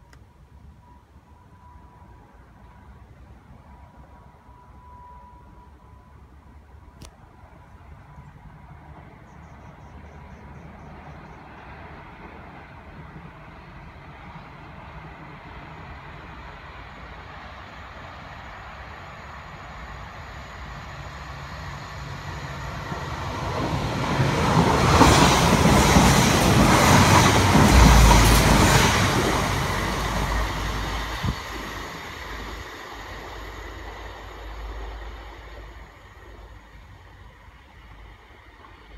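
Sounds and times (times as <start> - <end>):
passing train rumble: 0.0 - 38.9.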